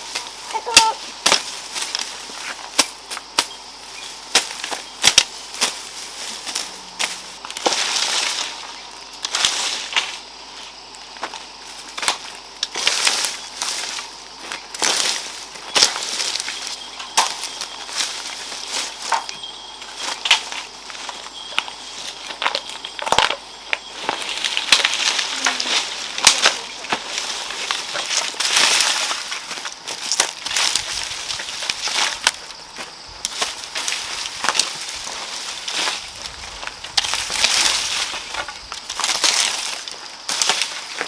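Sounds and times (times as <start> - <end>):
rice plants crunching and rustling: 0.0 - 41.0.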